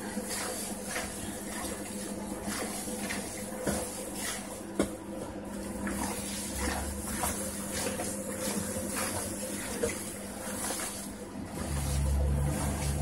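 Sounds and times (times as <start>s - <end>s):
hands kneading wet meat: 0.0s - 13.0s.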